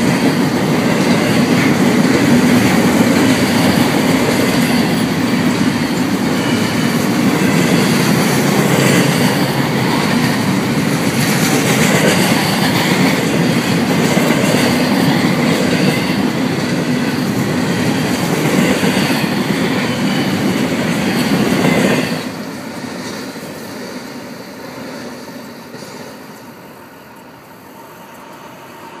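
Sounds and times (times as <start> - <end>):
freight train rolling past: 0.0 - 29.0.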